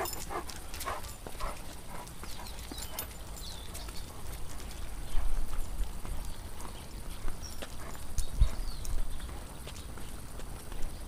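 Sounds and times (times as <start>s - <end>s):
dog nails clicking on pavement: 0.0s - 11.0s.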